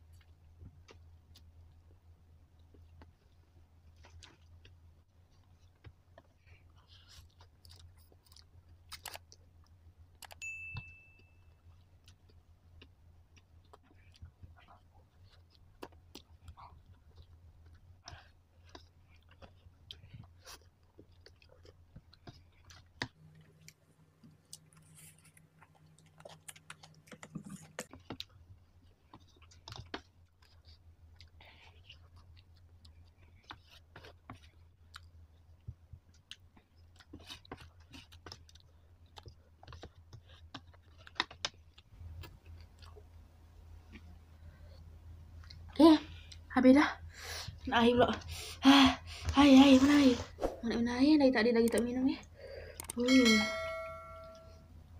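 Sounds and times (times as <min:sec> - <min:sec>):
quiet chewing: 0:00.0 - 0:10.4, 0:11.0 - 0:46.5, 0:51.4 - 0:53.1.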